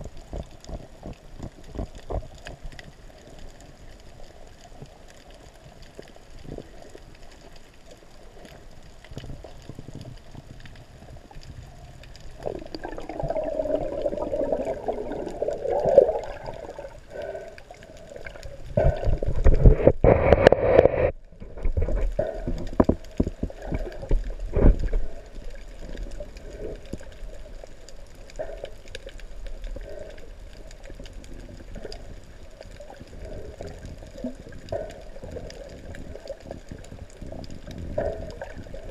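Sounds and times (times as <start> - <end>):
rushes of water: 0.0 - 38.9
water sloshing and gurgling: 0.0 - 38.9.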